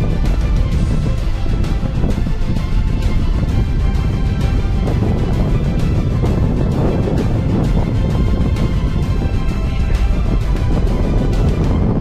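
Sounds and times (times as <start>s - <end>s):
background music with heavy bass: 0.0s - 12.0s.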